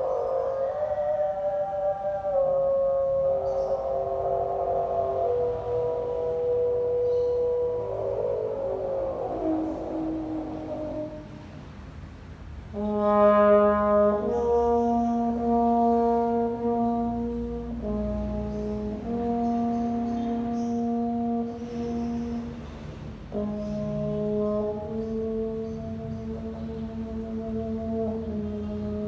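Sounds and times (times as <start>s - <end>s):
brass instrument long held notes: 0.0s - 29.0s.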